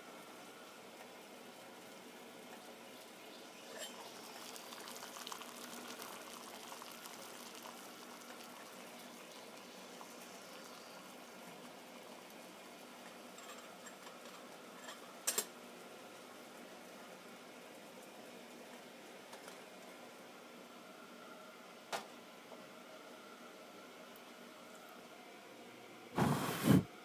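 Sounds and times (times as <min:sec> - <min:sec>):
water boiling faintly: 0:00.0 - 0:27.0.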